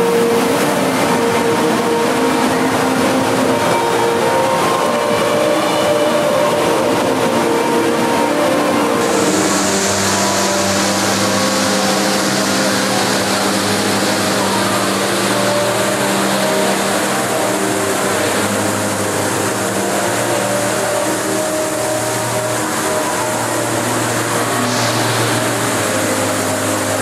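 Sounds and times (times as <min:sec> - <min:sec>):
low hum of sustained tones: 0:00.0 - 0:27.0
waterfall roaring: 0:00.0 - 0:27.0.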